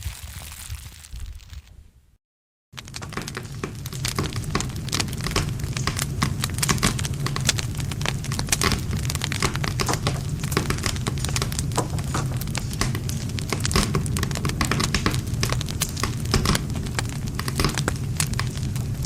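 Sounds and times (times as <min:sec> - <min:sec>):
campfire crackling and popping: 0:02.8 - 0:19.0
low rumble of flames: 0:02.8 - 0:19.0.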